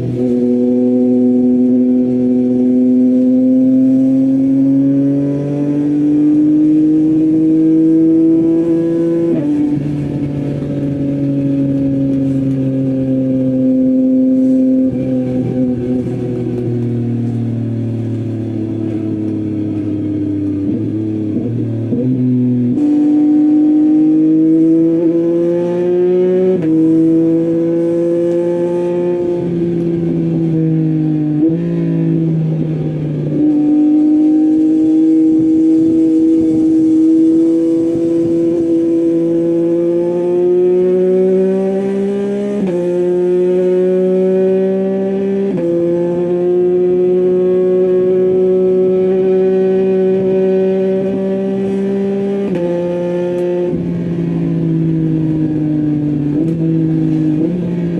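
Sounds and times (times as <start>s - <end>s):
motorcycle engine while riding: 0.0s - 57.9s.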